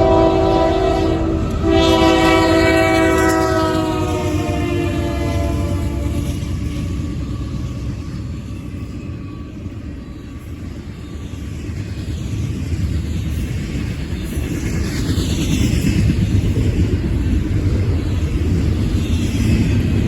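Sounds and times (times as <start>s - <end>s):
freight train passing: 0.0s - 20.0s.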